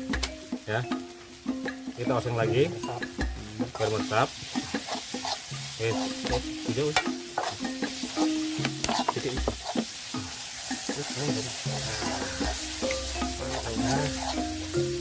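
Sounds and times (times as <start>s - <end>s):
food sizzling in wok: 0.0s - 15.0s
spoon scraping pan: 2.9s - 15.0s.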